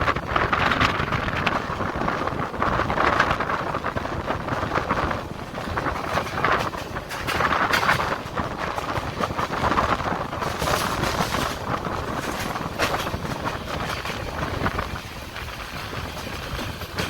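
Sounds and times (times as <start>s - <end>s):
train running rumble: 0.0s - 17.0s
wind buffeting microphone: 0.0s - 17.0s.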